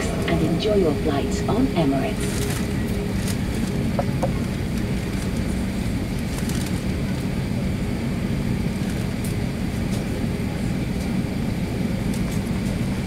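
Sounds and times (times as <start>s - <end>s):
jet engines idling: 0.0s - 13.0s.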